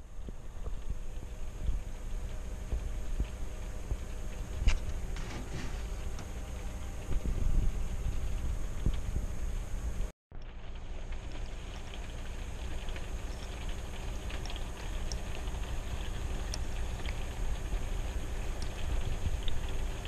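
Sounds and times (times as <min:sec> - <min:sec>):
low hum and rushing noise: 0:00.0 - 0:20.0.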